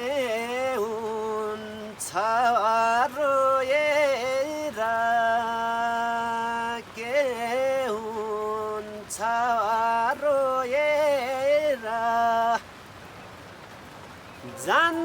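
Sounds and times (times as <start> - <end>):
person singing slow folk song: 0.0 - 12.7, 14.4 - 15.0.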